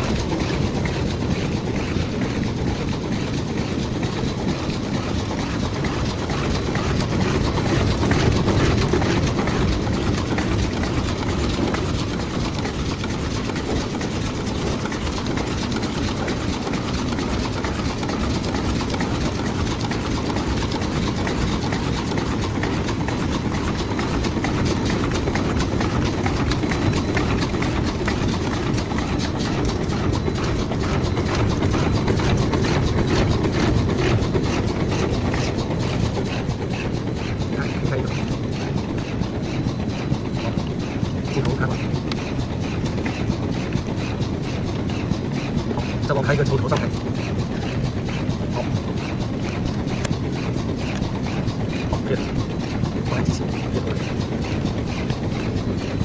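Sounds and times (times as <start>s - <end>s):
fast clatter of small clicks: 0.0s - 56.0s
packaging machine running: 0.0s - 56.0s.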